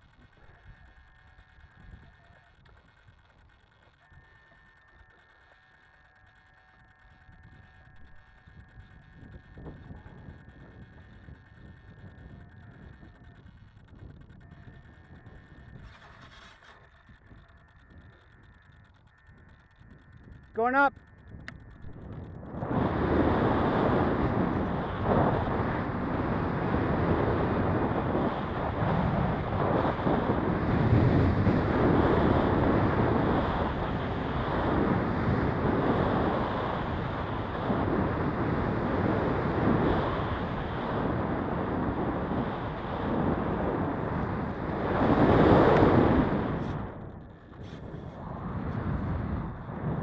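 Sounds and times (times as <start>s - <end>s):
wind buffeting microphone: 6.8s - 50.0s.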